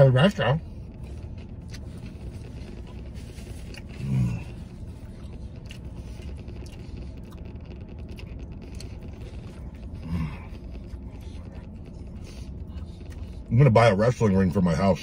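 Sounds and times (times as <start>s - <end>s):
low hummed mm: 0.0s - 15.0s
truck cab hum: 0.0s - 15.0s
man chewing: 0.6s - 13.5s.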